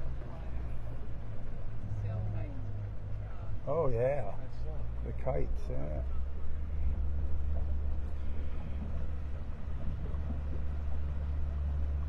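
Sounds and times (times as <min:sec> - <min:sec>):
boat motor rumbling: 0:00.0 - 0:12.0
water noise: 0:00.0 - 0:12.0
wind: 0:00.0 - 0:12.0.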